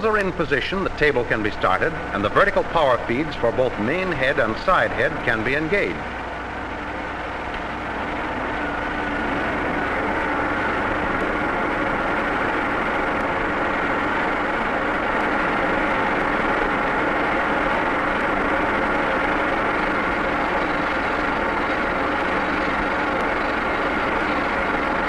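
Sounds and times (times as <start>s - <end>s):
machine drone with tones: 0.0s - 25.0s.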